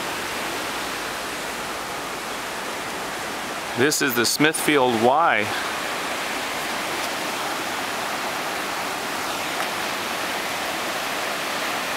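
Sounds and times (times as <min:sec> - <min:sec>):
rush of moving water: 0:00.0 - 0:11.9.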